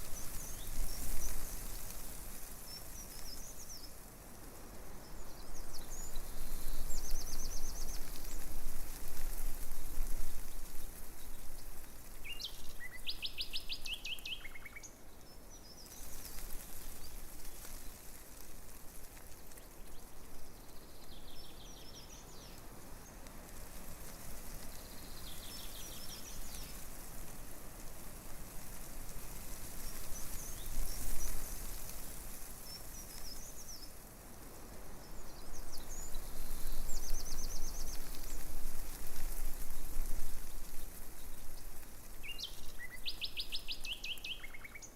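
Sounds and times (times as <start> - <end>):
small birds singing trills: 0.0 - 27.3, 28.6 - 44.9
breeze rustling leaves: 0.0 - 44.9.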